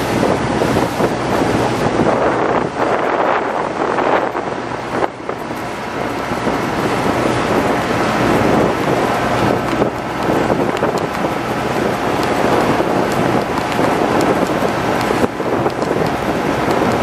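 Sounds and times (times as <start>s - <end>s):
boat engine drone: 0.0s - 17.0s
water rushing past hull: 0.0s - 17.0s
wind buffeting microphone: 0.0s - 17.0s.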